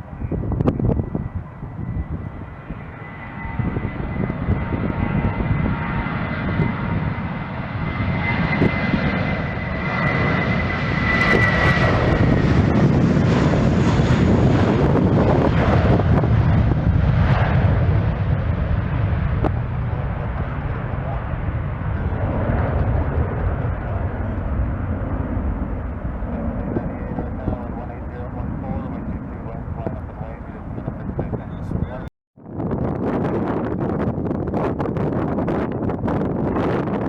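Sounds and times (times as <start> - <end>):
jet airliner engines: 0.0 - 37.0
wind buffeting microphone: 0.0 - 37.0.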